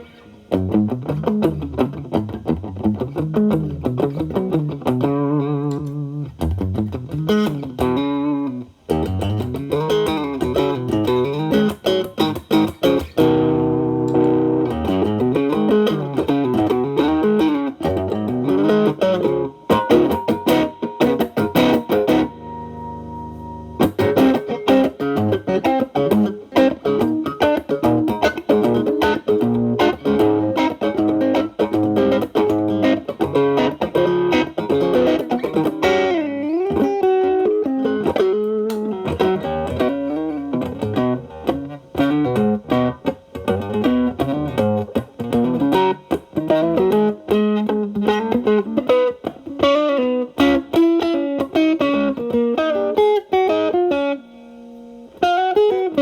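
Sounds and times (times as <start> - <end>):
electric guitar blues lead: 0.0 - 56.0.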